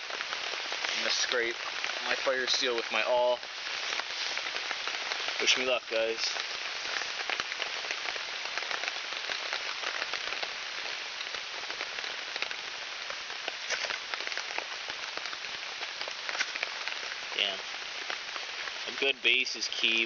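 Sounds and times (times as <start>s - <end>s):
rain on a tarp: 0.0s - 20.0s.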